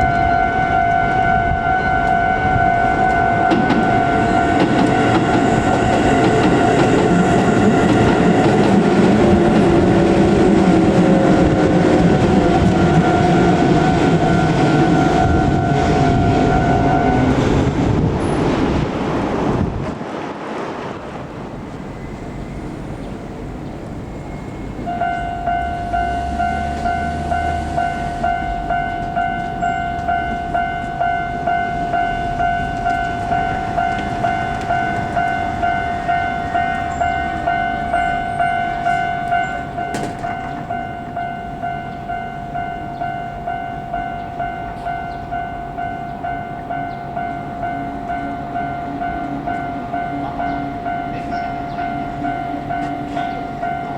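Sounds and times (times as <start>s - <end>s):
level crossing warning bell: 0.0s - 18.1s, 21.8s - 53.9s.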